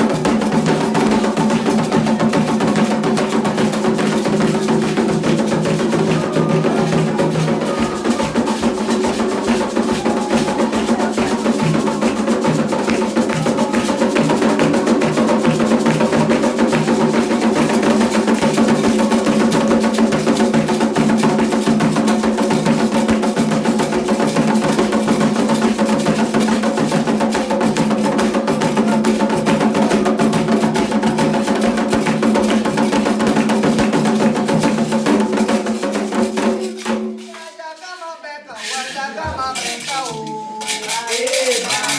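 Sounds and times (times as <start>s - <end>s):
hand drums playing fast rhythm: 0.0s - 37.6s, 38.6s - 41.9s
sharp clicking percussion: 0.0s - 41.9s.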